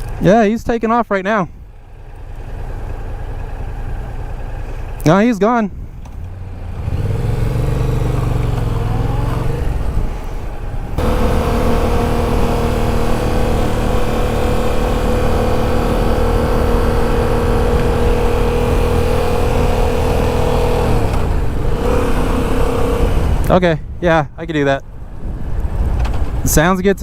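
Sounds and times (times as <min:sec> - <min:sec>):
wind and road noise: 0:00.0 - 0:27.0
motorcycle engine running: 0:01.5 - 0:23.5.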